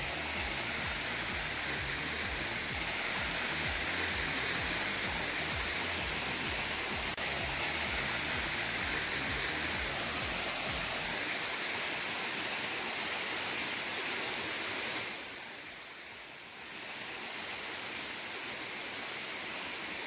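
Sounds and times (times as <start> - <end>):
waterfall and rushing stream: 0.0 - 20.0.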